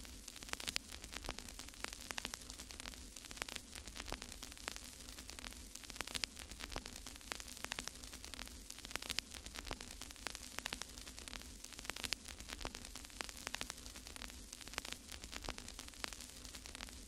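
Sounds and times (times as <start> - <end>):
crackling static: 0.0 - 17.0.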